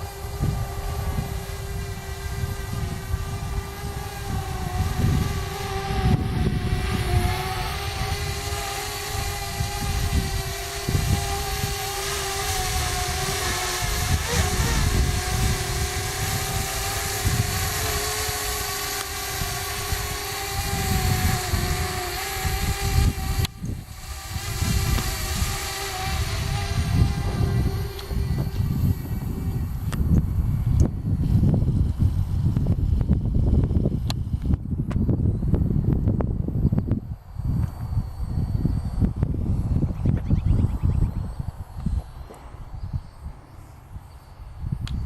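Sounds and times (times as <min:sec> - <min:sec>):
drone propellers whining: 0:00.0 - 0:45.0.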